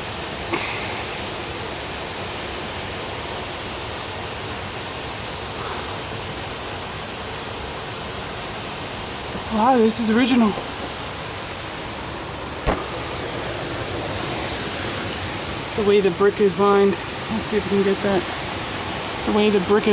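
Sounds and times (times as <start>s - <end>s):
flowing water rushing: 0.0s - 19.9s.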